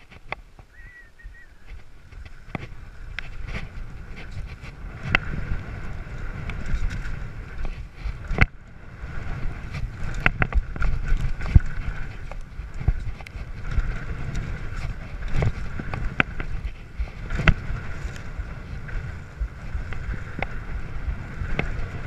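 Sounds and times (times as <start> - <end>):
bike rattling: 0.0 - 22.0
tyres on dirt: 0.0 - 22.0
wind rushing over microphone: 0.0 - 22.0.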